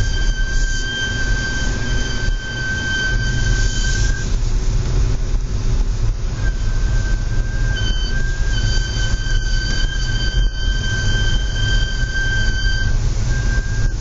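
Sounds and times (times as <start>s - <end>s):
brakes squealing: 0.0s - 14.0s
low rumbling driving noise: 0.0s - 14.0s.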